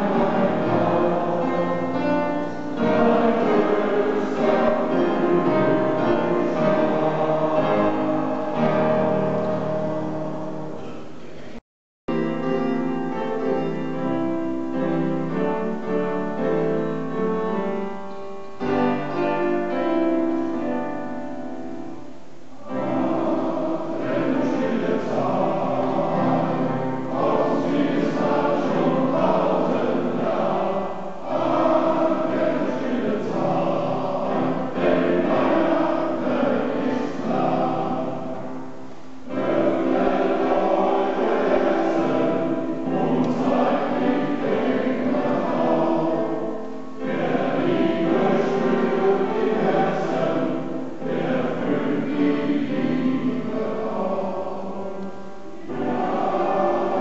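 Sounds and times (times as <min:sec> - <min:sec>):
male choir singing: 0:00.0 - 0:11.6, 0:22.5 - 0:57.0.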